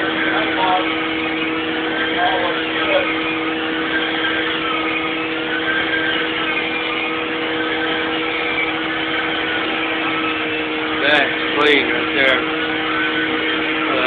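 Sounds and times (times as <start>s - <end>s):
carpet cleaning machine whirring: 0.0s - 14.0s.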